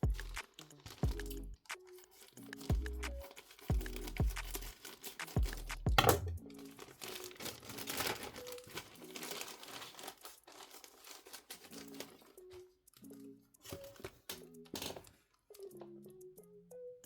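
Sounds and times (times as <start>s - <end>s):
packaging crinkling: 0.0s - 15.1s
soft lofi music: 0.0s - 17.0s.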